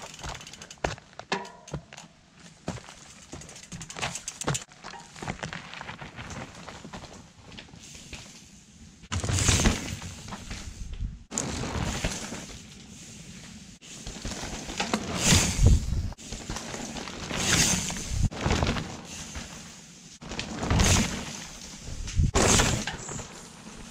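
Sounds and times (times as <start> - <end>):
bike rattling: 0.0 - 8.5, 9.1 - 23.9
bike tyres crunching over dirt: 0.0 - 23.9.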